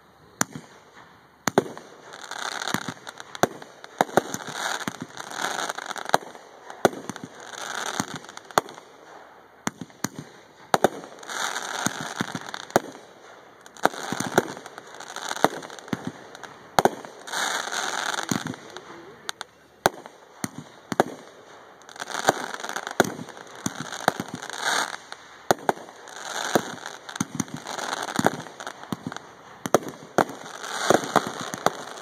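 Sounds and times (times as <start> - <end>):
firework bangs: 0.0 - 32.0
firework crackling: 0.0 - 32.0.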